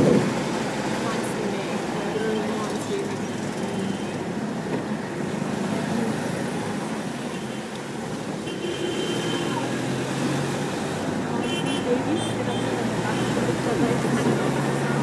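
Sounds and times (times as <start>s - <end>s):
car engine and road noise: 0.0s - 15.0s
surrounding traffic: 0.0s - 15.0s.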